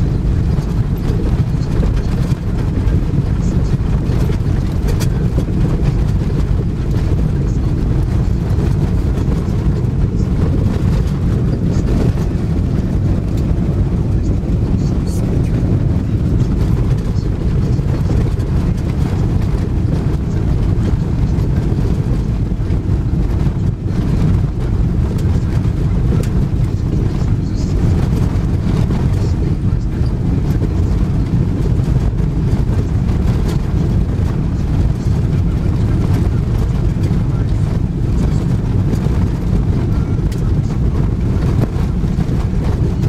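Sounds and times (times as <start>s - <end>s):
car driving on dirt road: 0.0s - 43.0s.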